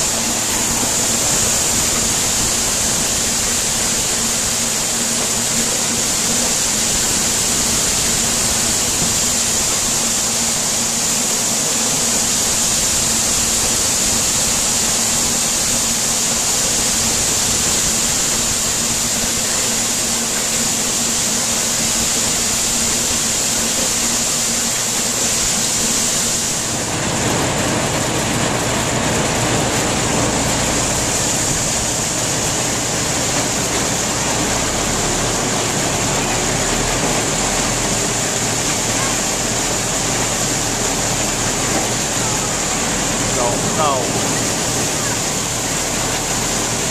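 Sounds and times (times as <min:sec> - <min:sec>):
corn sheller running: 0:00.0 - 0:46.9
low rough machine noise: 0:00.0 - 0:46.9.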